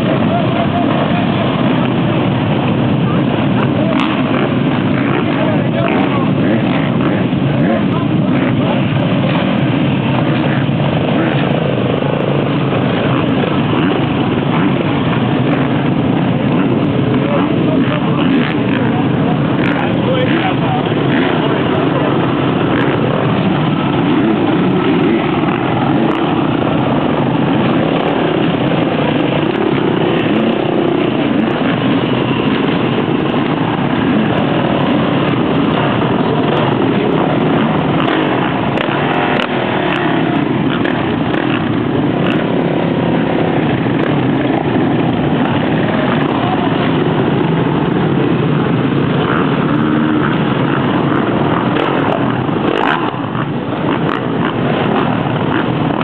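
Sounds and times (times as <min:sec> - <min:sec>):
bike engine revving: 0:00.0 - 0:56.0
motocross bike engines running: 0:00.0 - 0:56.0.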